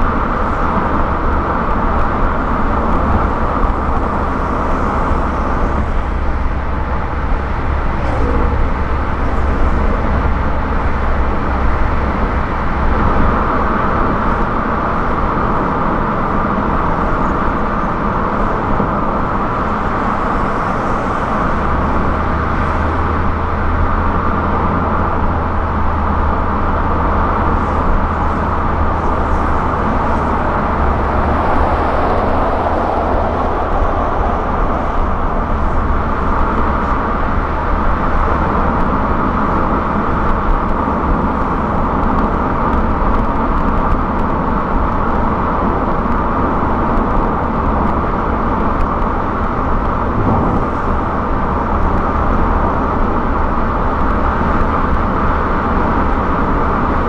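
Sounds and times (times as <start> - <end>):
car road and tyre noise: 0.0 - 57.0
low drone: 0.0 - 57.0.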